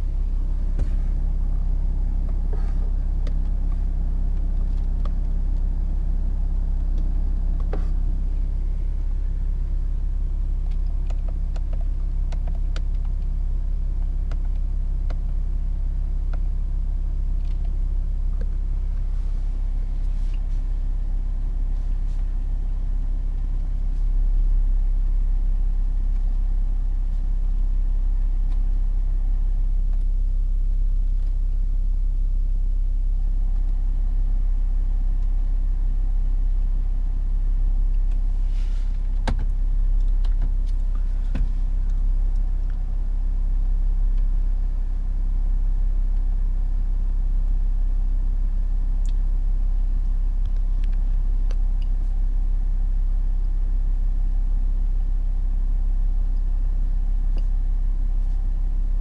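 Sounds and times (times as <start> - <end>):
diesel engine hum in cabin: 0.0 - 59.0.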